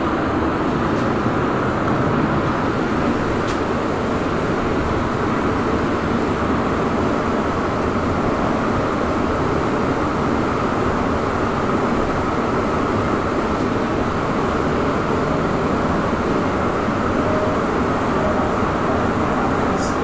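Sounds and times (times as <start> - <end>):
trolleybus cabin rumble: 0.0 - 20.0.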